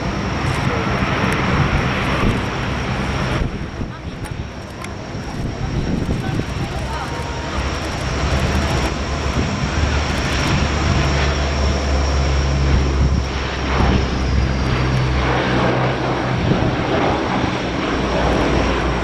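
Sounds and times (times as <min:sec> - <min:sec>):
deep propeller drone: 0:00.0 - 0:19.0
high turbine whine: 0:00.0 - 0:19.0.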